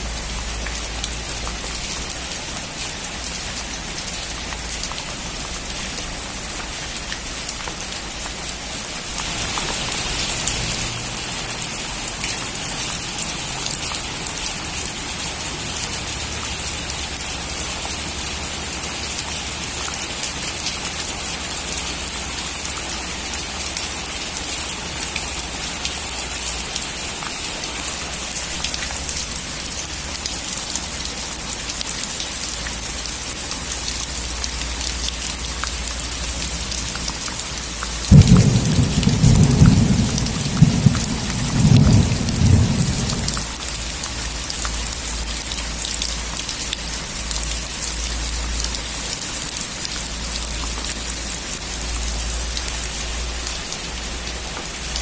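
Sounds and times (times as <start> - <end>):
rain drumming on a metal roof: 0.0 - 55.0.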